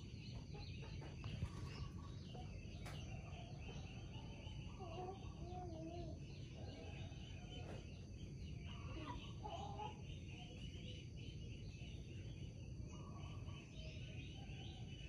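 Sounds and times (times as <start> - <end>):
faint birds chirping: 0.0 - 15.0
low rumble of outdoor noise: 0.0 - 15.0.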